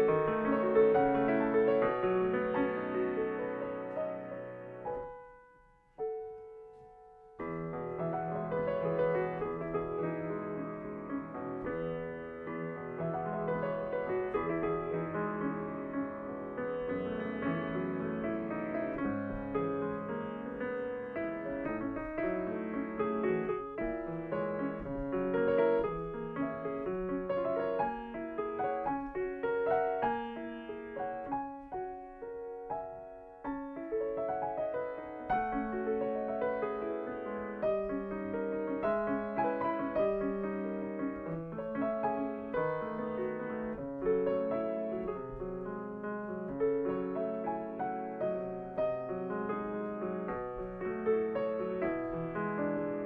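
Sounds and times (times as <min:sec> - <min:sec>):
solo grand piano piece: 0:00.0 - 0:53.0.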